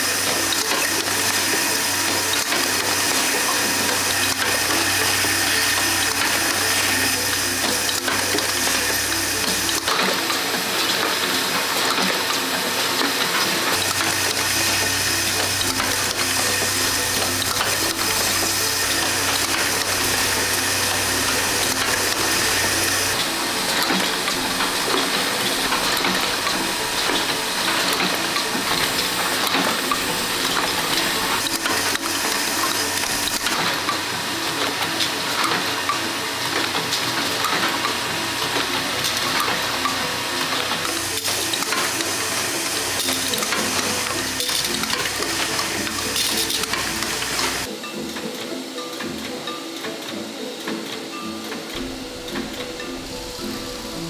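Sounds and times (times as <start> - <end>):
production line machinery: 0.0 - 54.0.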